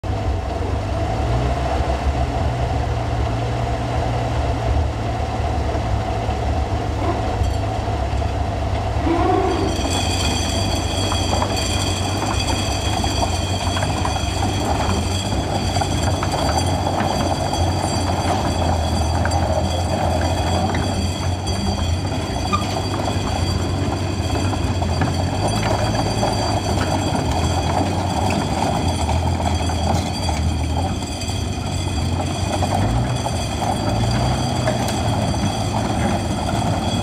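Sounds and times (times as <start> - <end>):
engine running: 0.0 - 37.0
high steady whine: 1.7 - 37.0
steel tracks clanking: 4.0 - 37.0.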